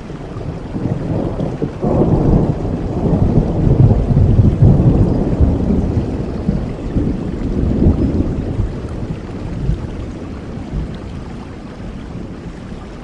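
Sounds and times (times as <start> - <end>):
low rumble of thunder: 0.0 - 13.0
rain falling: 0.0 - 13.0.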